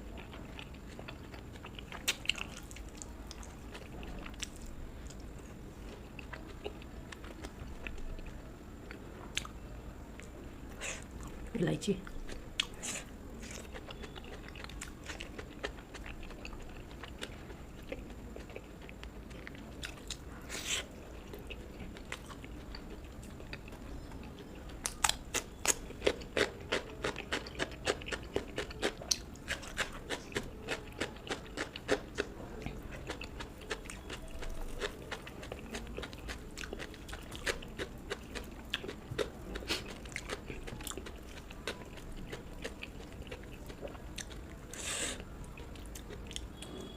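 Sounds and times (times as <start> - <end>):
chewing food with mouth clicks: 0.0 - 9.6, 12.0 - 46.9.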